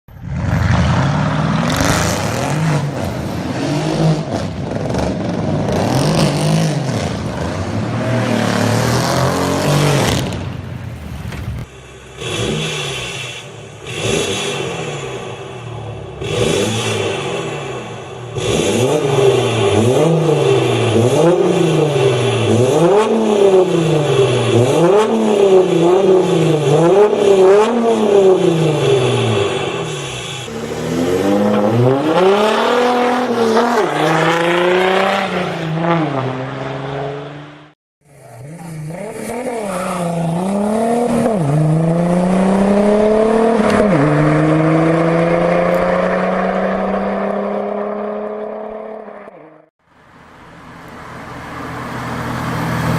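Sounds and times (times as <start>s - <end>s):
car engines accelerating hard: 0.2s - 10.7s, 11.5s - 49.7s, 50.8s - 52.9s
car engine revving: 0.2s - 49.7s.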